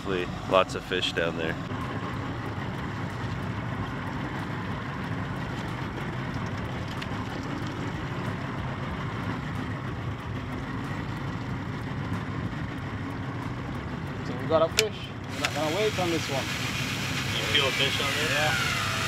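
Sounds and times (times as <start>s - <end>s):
outboard engine idling: 0.0s - 19.0s
wind: 0.0s - 19.0s.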